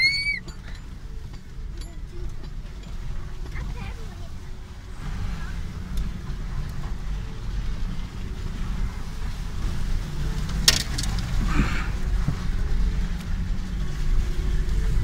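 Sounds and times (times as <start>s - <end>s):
engine and drivetrain rumble: 0.0s - 15.0s.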